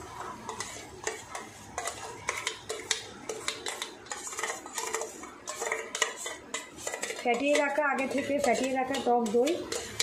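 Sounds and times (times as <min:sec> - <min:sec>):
metal spoon clinking against bowl: 0:00.5 - 0:10.0.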